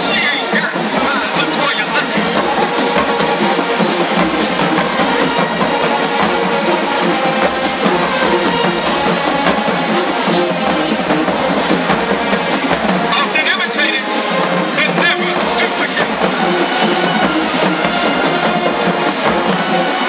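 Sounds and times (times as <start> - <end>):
drums beating: 0.0 - 20.0
marching band playing: 0.0 - 20.0.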